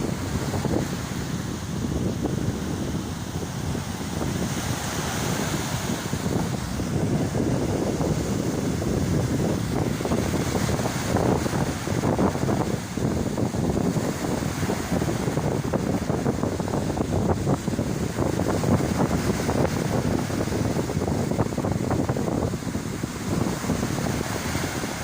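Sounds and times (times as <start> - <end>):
surf washing on beach: 0.0 - 25.0
wind buffeting microphone: 0.0 - 25.0.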